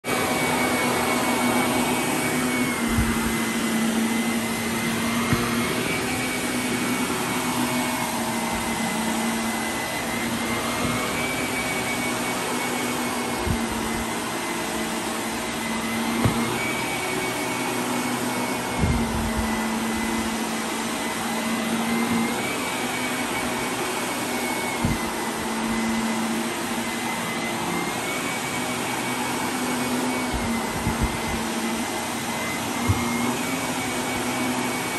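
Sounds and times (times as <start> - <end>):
upright vacuum cleaner running: 0.0 - 34.9.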